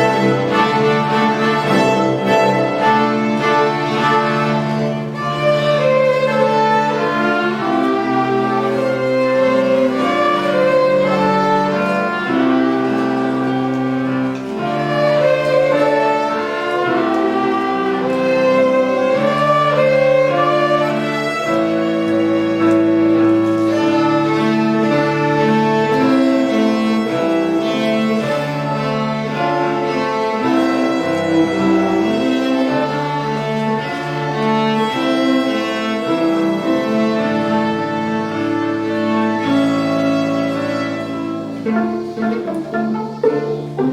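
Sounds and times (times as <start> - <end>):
lower bowed strings: 0.0 - 43.9
violins playing tune: 0.0 - 43.9.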